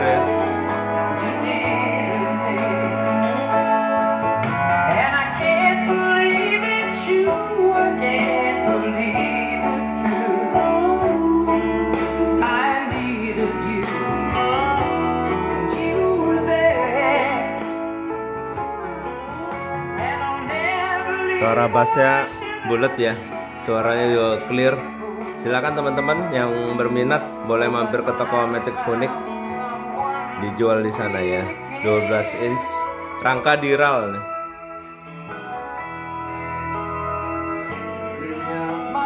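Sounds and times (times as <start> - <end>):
person singing: 0.0 - 18.1, 19.4 - 34.3, 37.7 - 39.0
guitar playing: 0.0 - 39.0.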